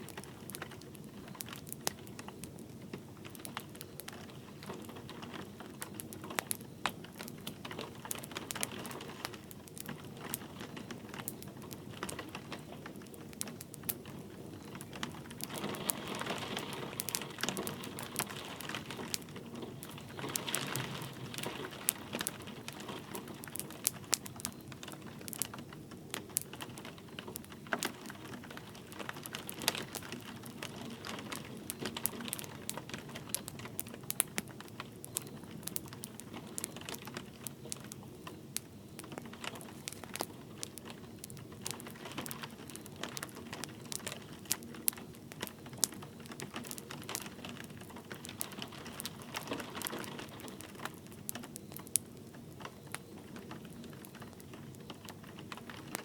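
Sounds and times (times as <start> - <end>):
light rain patter: 0.0 - 56.0
wood fire crackling: 0.0 - 56.0.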